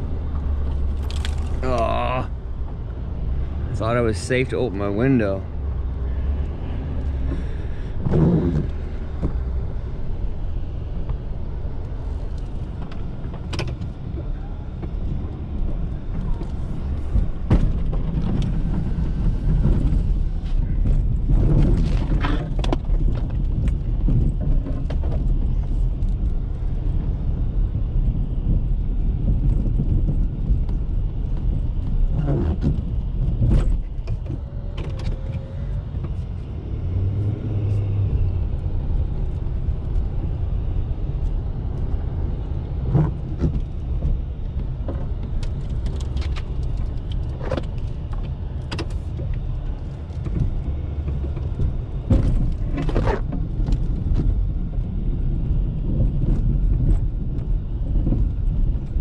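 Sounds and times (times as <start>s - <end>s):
diesel truck engine rumble: 0.0s - 59.0s.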